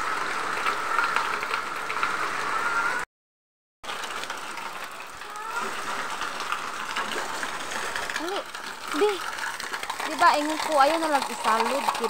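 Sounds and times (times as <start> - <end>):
rain falling: 0.0 - 3.0, 3.8 - 12.0
water pouring off a roof: 0.0 - 3.0, 3.8 - 12.0.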